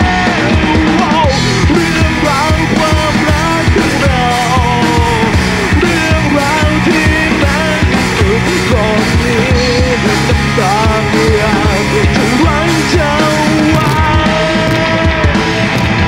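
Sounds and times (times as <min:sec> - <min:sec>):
bass guitar: 0:00.0 - 0:16.0
drum kit: 0:00.0 - 0:16.0
electric guitar: 0:00.0 - 0:16.0
man singing: 0:00.0 - 0:16.0.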